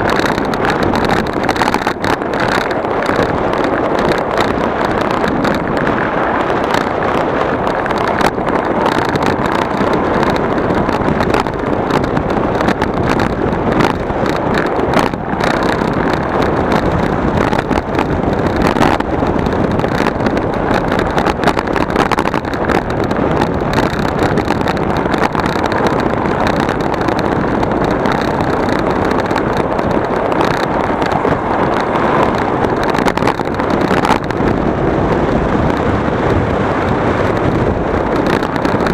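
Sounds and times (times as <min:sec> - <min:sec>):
road and engine noise: 0:00.0 - 0:38.9
wind buffeting microphone: 0:00.0 - 0:38.9.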